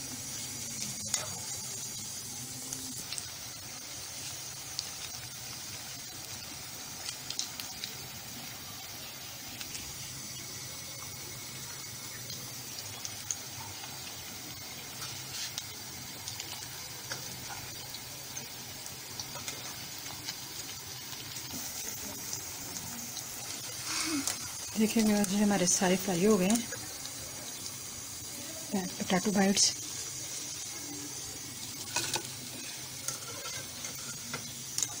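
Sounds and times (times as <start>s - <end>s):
deep-frying oil sizzling: 0.0s - 35.0s.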